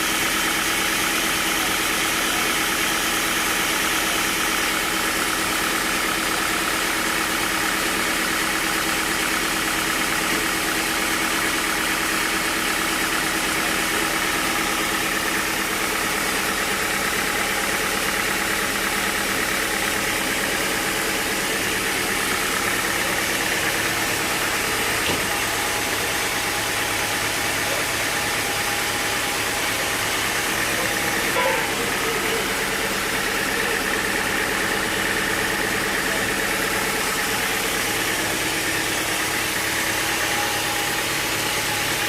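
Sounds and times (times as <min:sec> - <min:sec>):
sawmill machinery humming: 0:00.0 - 0:42.0.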